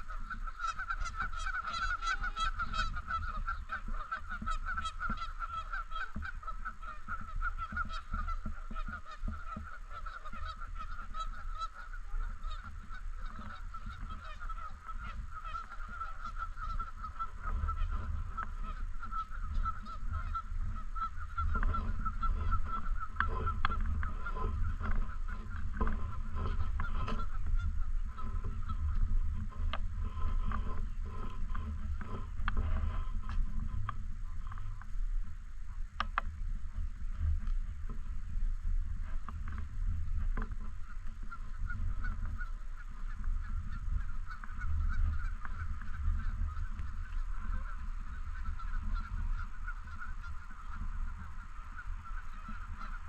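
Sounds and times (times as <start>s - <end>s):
geese honking: 0.0s - 35.0s, 35.7s - 53.0s.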